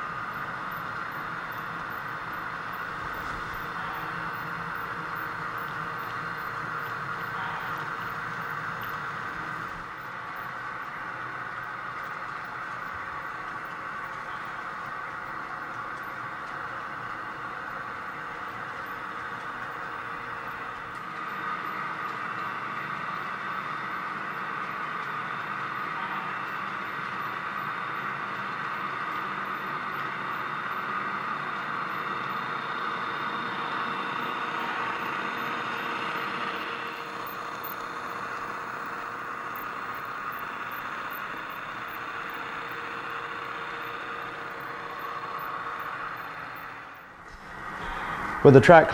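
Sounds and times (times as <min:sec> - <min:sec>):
model locomotives droning: 0:00.0 - 0:48.9.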